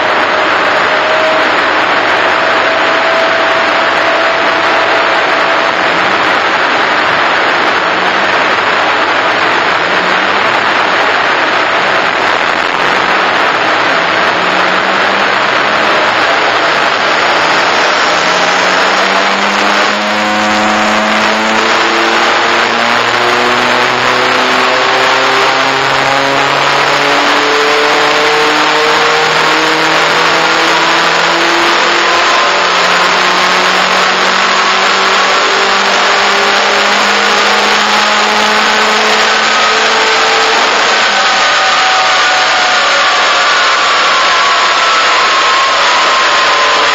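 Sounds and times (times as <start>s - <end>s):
car engine revving on a dyno: 0.0s - 46.9s.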